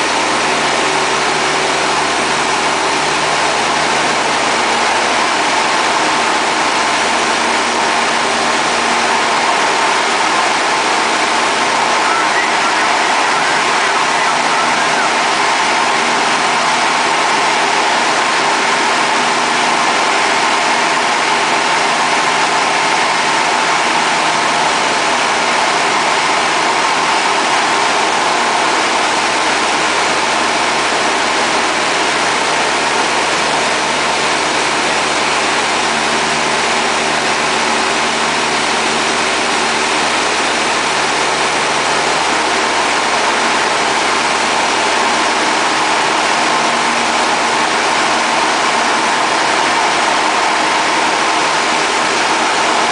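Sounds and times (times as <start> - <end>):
propeller aircraft engine droning: 0.0 - 52.9.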